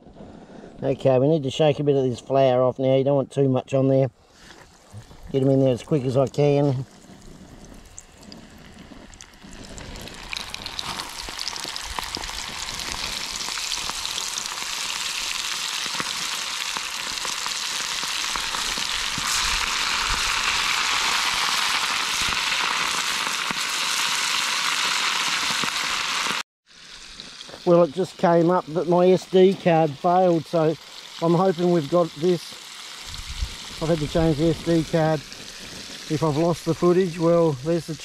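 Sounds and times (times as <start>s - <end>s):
food frying in hot oil: 6.8s - 38.0s.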